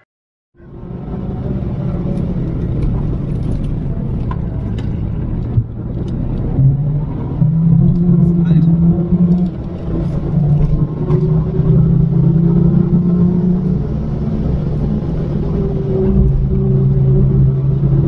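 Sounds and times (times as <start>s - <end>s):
car engine under load: 0.6s - 18.0s.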